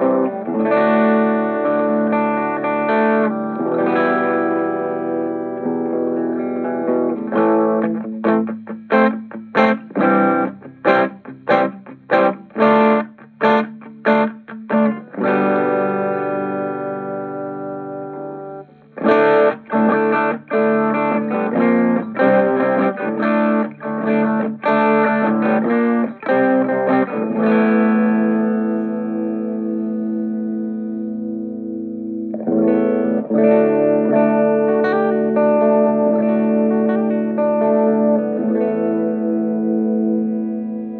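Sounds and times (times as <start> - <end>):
distorted electric guitar chords: 0.0 - 40.9.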